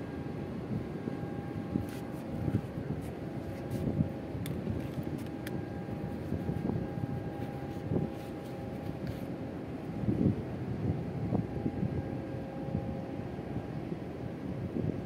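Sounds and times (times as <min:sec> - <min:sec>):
ship machinery rumble: 0:00.0 - 0:15.0
steady tonal hum: 0:00.0 - 0:15.0.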